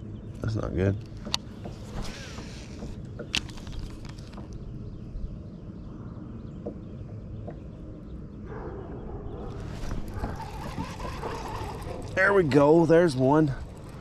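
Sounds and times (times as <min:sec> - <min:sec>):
faint birds chirping: 0:00.0 - 0:14.0
wind rumbling on microphone: 0:00.4 - 0:14.0.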